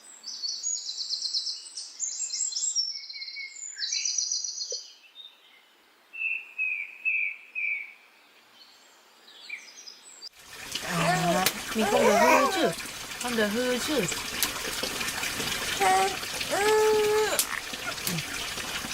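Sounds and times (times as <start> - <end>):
faint outdoor background noise: 0.0 - 18.9.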